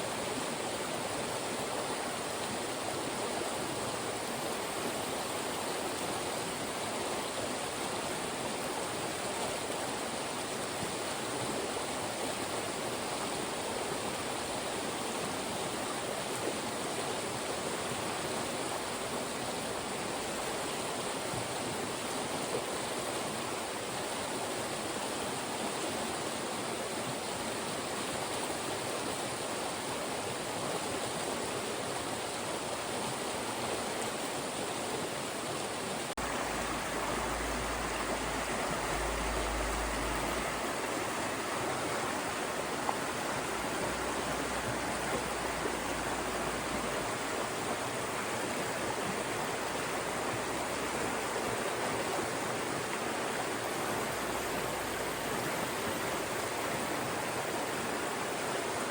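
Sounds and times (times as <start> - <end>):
mountain stream rushing over rocks: 0.0 - 58.9.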